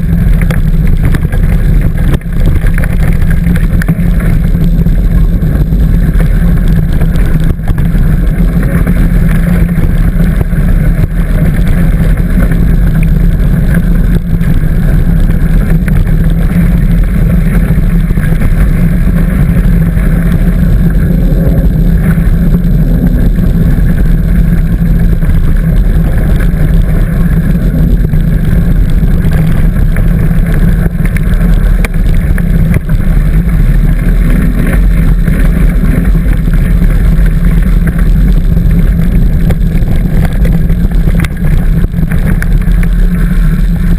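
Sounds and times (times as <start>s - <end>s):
bike rattling along trail: 0.0s - 43.9s
wind buffeting microphone: 0.0s - 43.9s.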